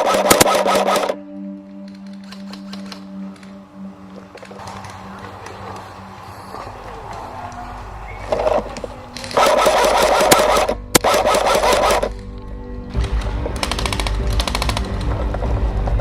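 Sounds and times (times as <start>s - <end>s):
background music with heavy bass: 0.0s - 16.0s.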